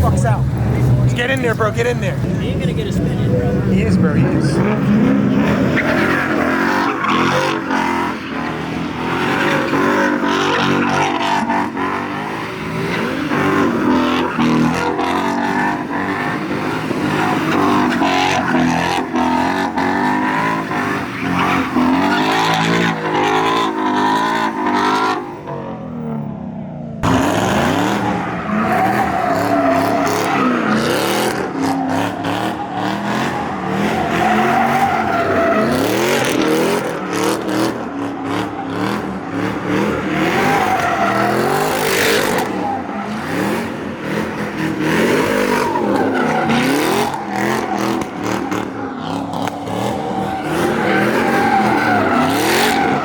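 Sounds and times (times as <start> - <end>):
tyres squealing and skidding: 0.0 - 26.1, 27.0 - 53.0
car engine revving: 0.0 - 53.0.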